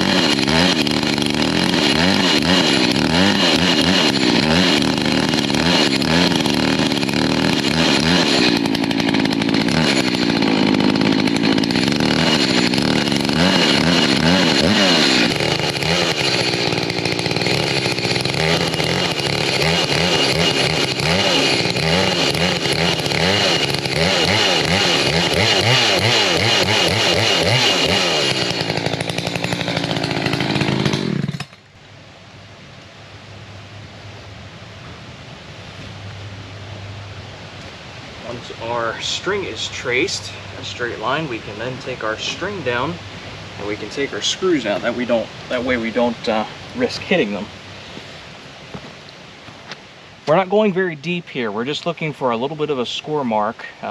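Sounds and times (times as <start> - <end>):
chainsaw cutting wood: 0.0 - 31.7, 38.3 - 49.0, 49.6 - 50.7.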